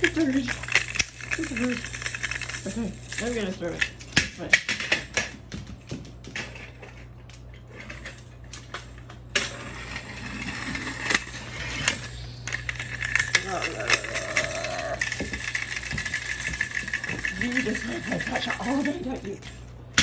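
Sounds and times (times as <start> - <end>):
toy car clattering on hard floor: 0.0 - 7.1, 7.8 - 20.0.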